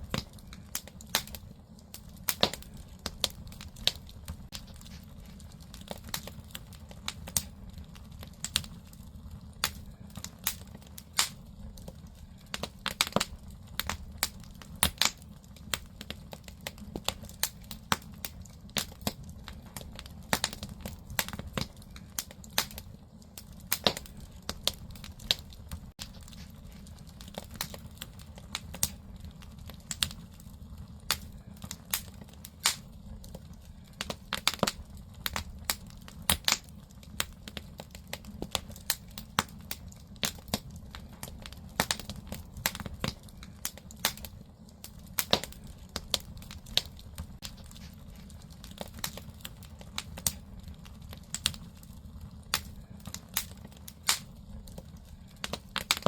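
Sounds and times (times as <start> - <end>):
firewood crackling and popping: 0.0 - 56.0
low rumble of fire: 0.0 - 56.0.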